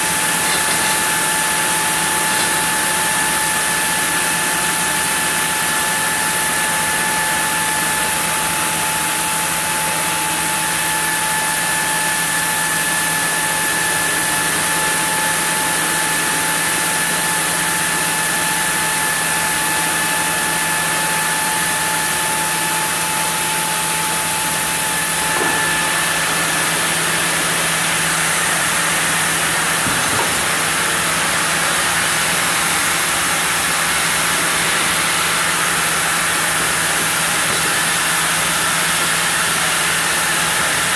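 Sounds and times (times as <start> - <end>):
sawmill saw cutting wood: 0.0 - 40.9
thin steady whine: 0.0 - 40.9.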